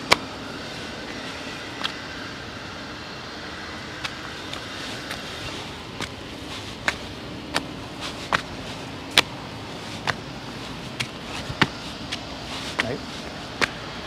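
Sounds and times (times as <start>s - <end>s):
footsteps on rocky path: 0.0s - 2.3s, 3.8s - 14.0s
low background hum: 0.0s - 14.0s.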